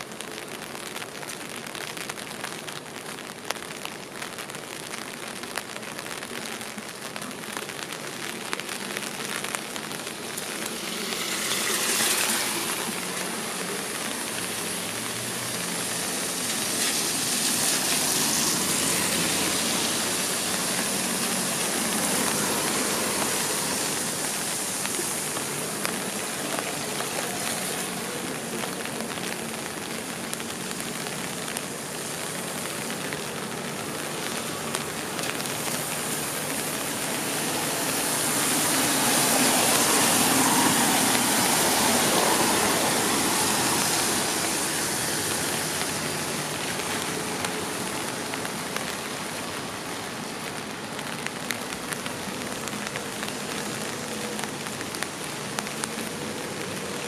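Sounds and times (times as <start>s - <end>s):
rain falling on street: 0.0s - 57.0s
vehicles hissing on wet road: 0.0s - 57.0s.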